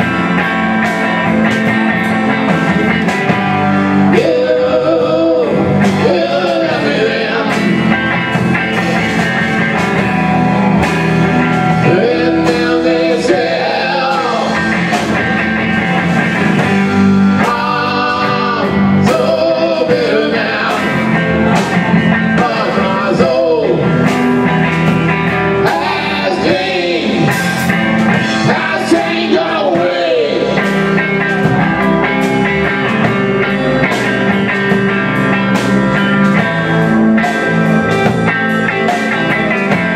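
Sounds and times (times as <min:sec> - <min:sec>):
bass guitar: 0:00.0 - 0:39.9
drum kit: 0:00.0 - 0:39.9
electric guitar lead with bends: 0:00.0 - 0:39.9.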